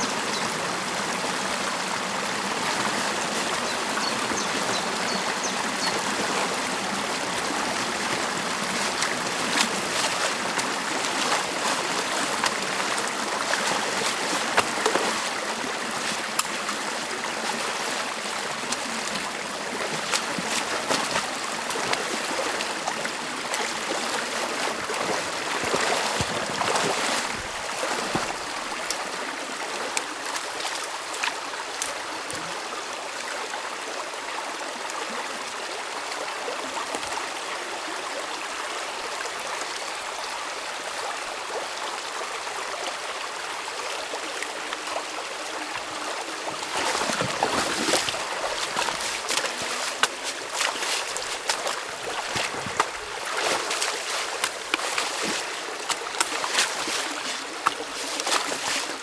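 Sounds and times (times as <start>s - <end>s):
water splashes: 0.0s - 32.8s, 43.8s - 59.0s
stream water rushing: 0.0s - 59.0s.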